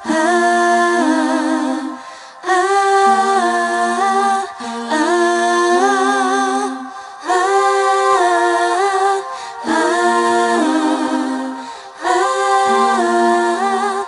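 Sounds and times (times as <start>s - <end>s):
women singing wordless harmony: 0.0s - 14.0s.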